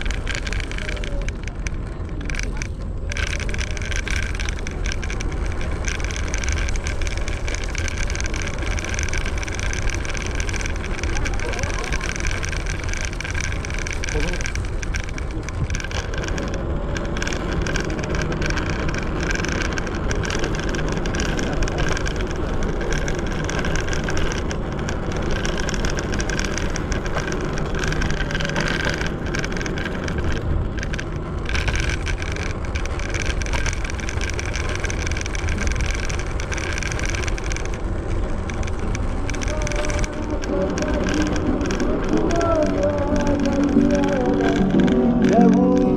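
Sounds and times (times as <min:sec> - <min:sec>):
electric scooter rumbling over pavement: 0:00.0 - 0:45.9.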